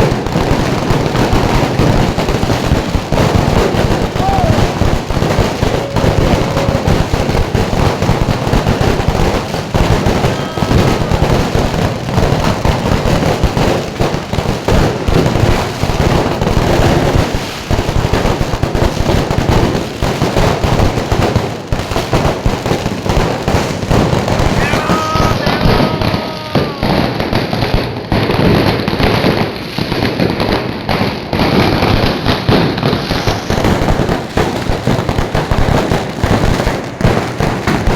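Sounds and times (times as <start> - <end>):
fireworks and firecrackers banging: 0.0 - 37.9.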